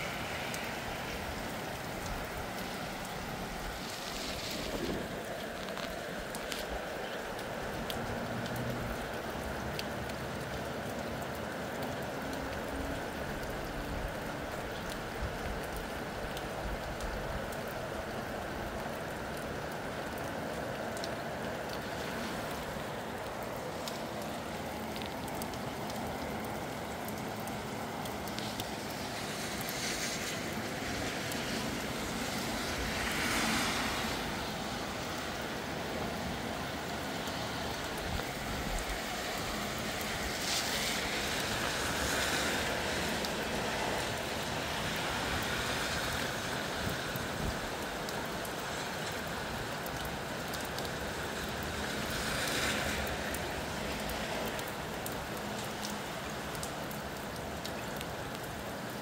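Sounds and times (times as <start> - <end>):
steady rain falling: 0.0 - 59.0
wind: 0.0 - 59.0.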